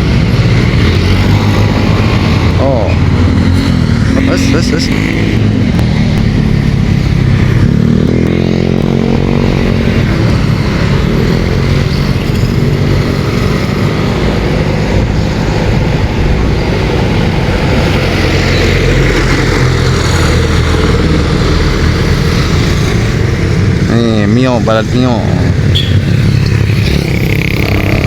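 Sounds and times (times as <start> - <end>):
motor scooters passing: 0.0 - 28.0
traffic noise: 0.0 - 28.0.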